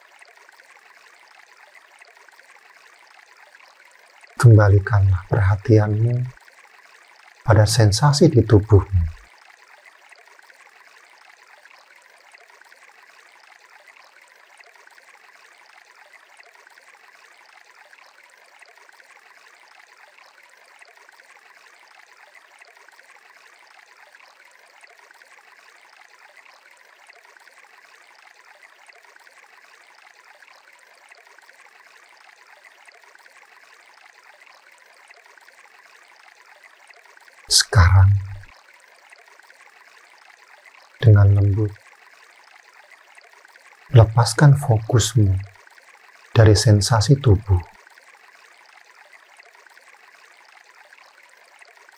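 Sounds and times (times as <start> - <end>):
faint rushing water: 0.0 - 51.9.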